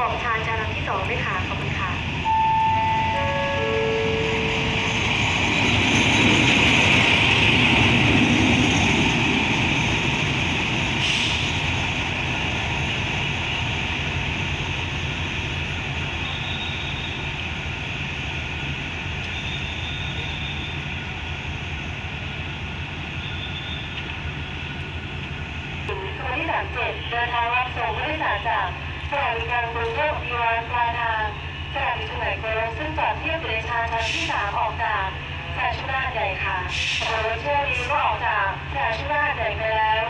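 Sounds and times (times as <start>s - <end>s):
diesel locomotive engine: 0.0s - 40.0s.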